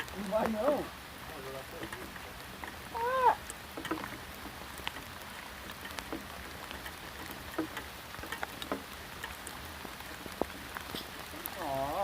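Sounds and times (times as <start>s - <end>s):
drops ticking on surfaces: 0.0s - 11.7s
steady rain falling: 0.0s - 12.0s.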